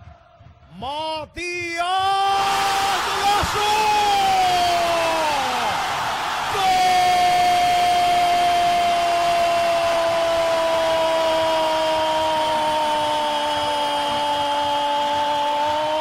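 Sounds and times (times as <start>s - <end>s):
stadium crowd noise: 0.0s - 16.0s.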